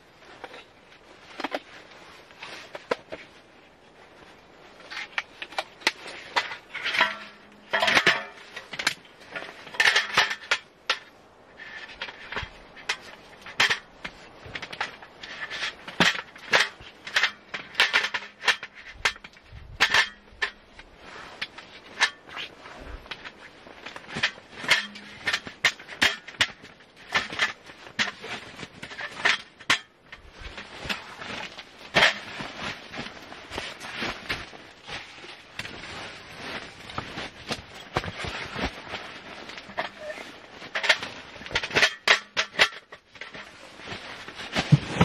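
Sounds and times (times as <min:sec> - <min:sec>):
metal camp table clattering: 0:00.3 - 0:03.3, 0:04.8 - 0:45.0.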